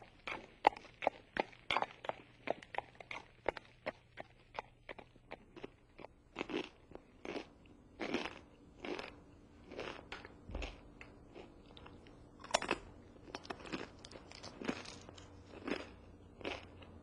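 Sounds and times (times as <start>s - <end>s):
person chewing crunchy chip: 0.0s - 17.0s.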